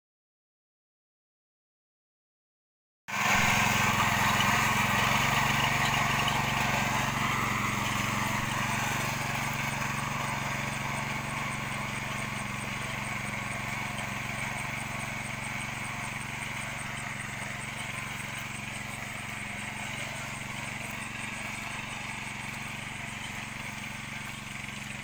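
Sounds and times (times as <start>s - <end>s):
small plough engine running: 3.1s - 25.0s.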